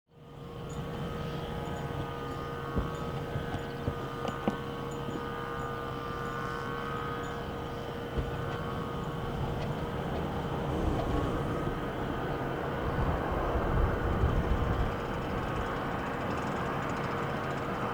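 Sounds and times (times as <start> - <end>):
jet engines whining: 0.3 - 17.9.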